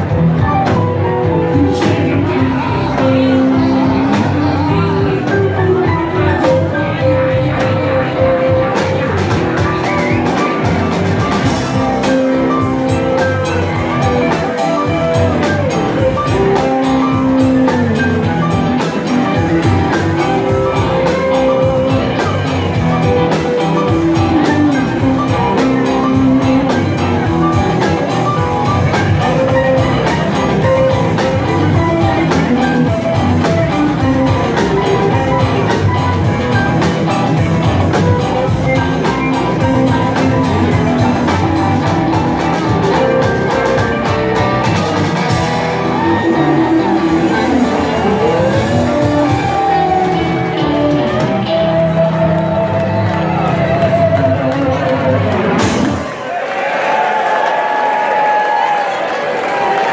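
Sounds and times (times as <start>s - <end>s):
bass guitar: 0.0s - 56.4s
drum kit: 0.0s - 59.9s
electric guitars: 0.0s - 59.9s
keyboards: 0.0s - 59.9s.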